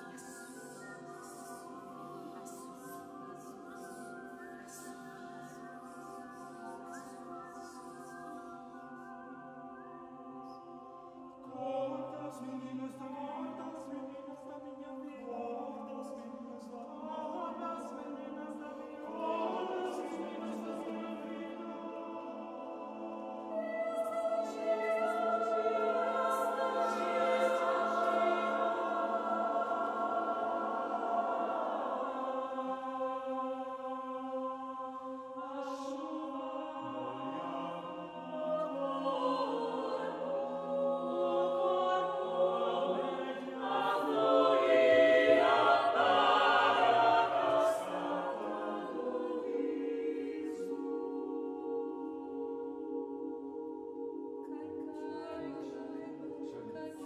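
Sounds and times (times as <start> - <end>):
mixed choir singing held chords: 0.0 - 57.0.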